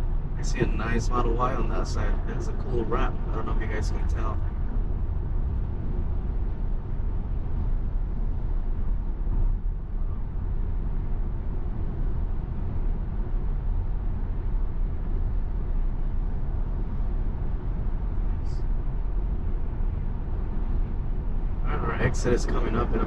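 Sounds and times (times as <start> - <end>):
road rumble inside car cabin: 0.0 - 23.0.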